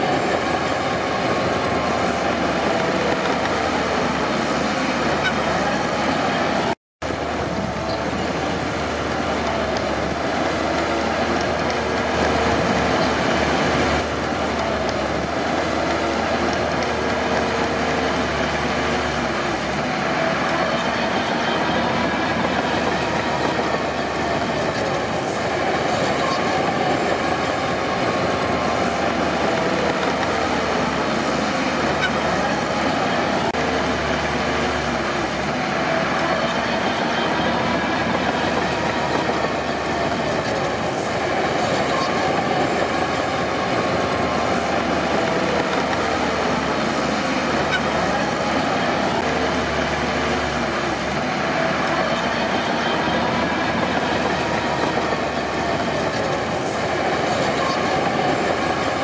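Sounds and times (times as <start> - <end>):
bulldozer diesel engine: 0.0 - 59.0
steel tracks running: 0.0 - 59.0.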